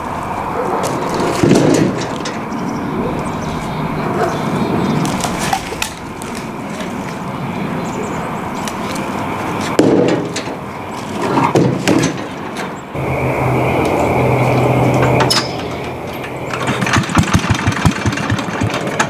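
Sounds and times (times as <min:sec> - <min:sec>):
branches rustling and scraping: 0:00.0 - 0:17.0.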